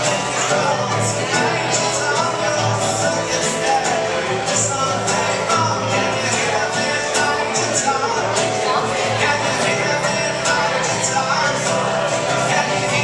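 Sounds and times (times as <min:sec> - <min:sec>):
acoustic guitar strumming: 0:00.0 - 0:13.0
person singing: 0:00.0 - 0:13.0.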